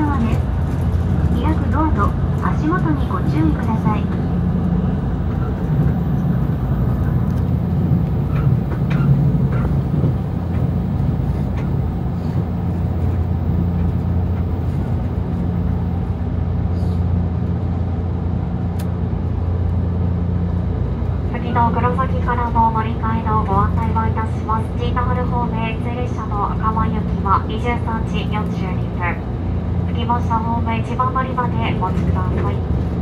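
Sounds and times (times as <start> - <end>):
train interior rumble: 0.0 - 33.0.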